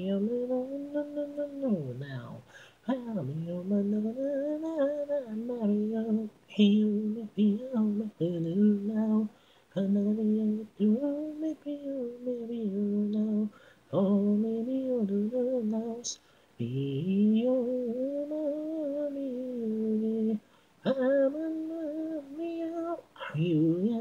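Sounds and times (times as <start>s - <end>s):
person singing a cappella: 0.0s - 24.0s.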